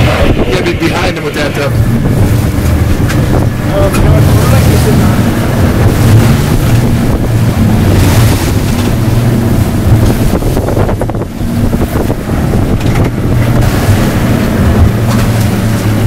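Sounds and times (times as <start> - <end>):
boat engine running: 0.0 - 16.0
water rushing past hull: 0.0 - 16.0
wind buffeting microphone: 0.0 - 16.0.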